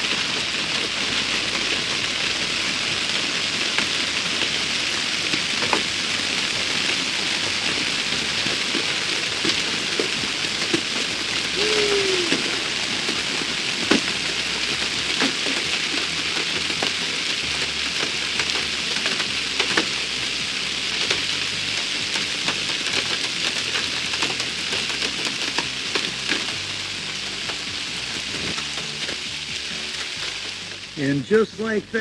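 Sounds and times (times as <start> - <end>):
hailstones clicking on hard surfaces: 0.0 - 31.2
hail falling: 0.0 - 32.0.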